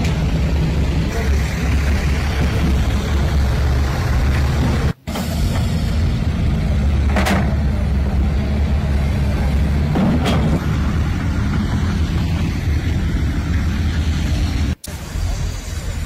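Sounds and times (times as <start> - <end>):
heavy machinery engines humming: 0.0 - 16.0.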